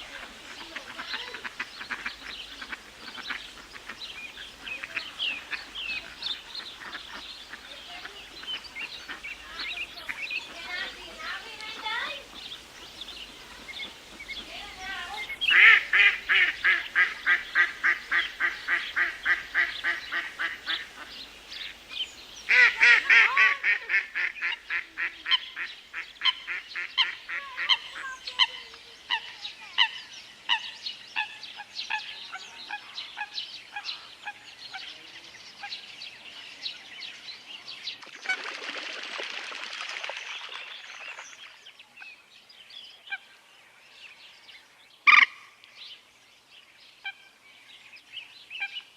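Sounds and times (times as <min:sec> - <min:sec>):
waterfowl calling: 0:00.0 - 0:35.9, 0:37.9 - 0:42.1, 0:45.0 - 0:45.7.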